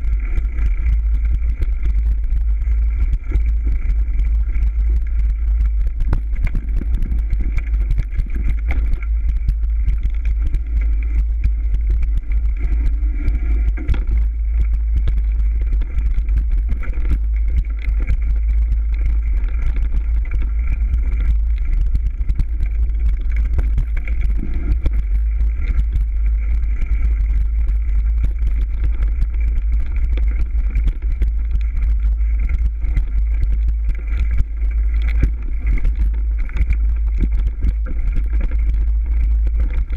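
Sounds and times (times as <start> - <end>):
heavy low rumble of bike: 0.0 - 39.9.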